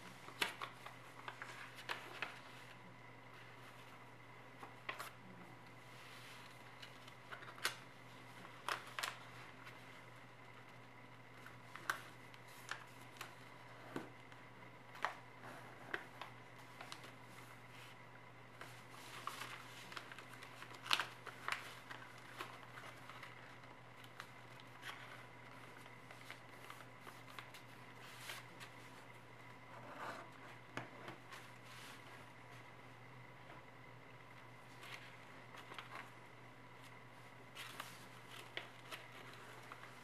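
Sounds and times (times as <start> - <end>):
faint steady hum: 0.0 - 40.0
paper crinkling as folded: 0.1 - 4.0, 5.9 - 10.8, 11.4 - 15.2, 15.9 - 29.2, 31.1 - 32.6, 34.6 - 40.0.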